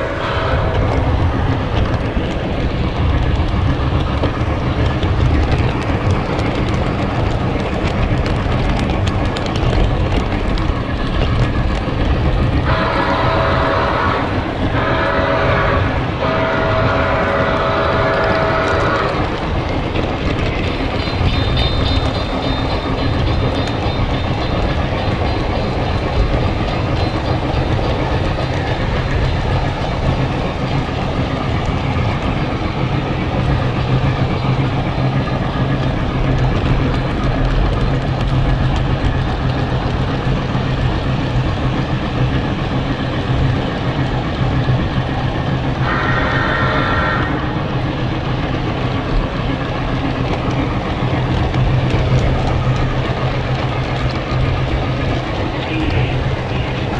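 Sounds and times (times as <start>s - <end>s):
train rumbling past: 0.0s - 56.9s
wheels clacking on rails: 0.0s - 56.9s.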